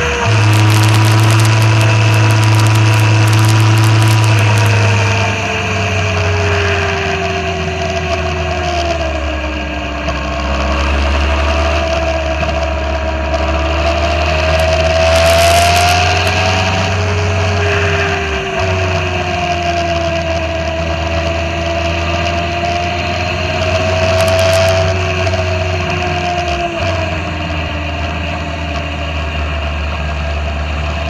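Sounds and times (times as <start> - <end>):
motorcycle engine riding: 0.0 - 31.0.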